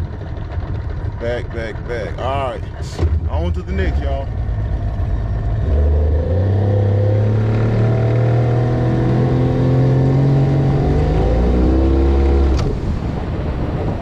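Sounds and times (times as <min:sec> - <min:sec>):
outboard motor running: 0:00.0 - 0:13.9.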